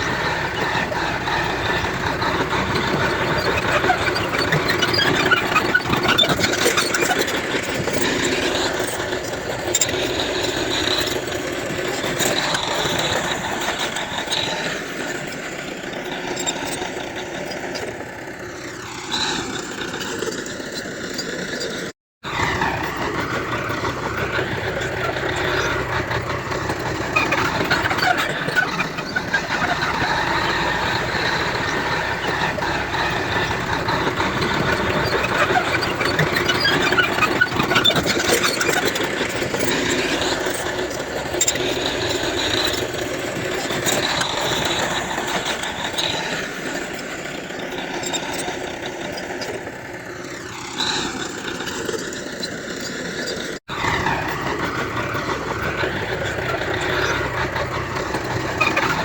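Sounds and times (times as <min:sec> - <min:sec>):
diesel engine under load: 0:00.0 - 0:59.0
metallic squeaks and clanks: 0:00.0 - 0:59.0.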